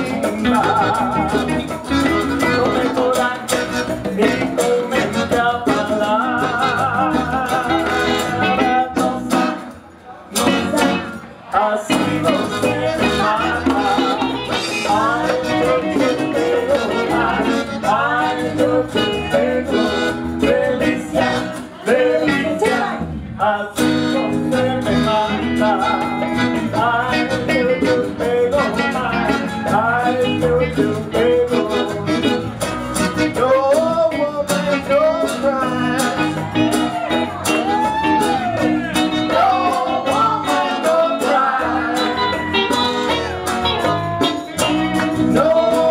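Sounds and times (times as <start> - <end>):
lead vocal singing: 0.0 - 45.9
live band playing: 0.0 - 45.9.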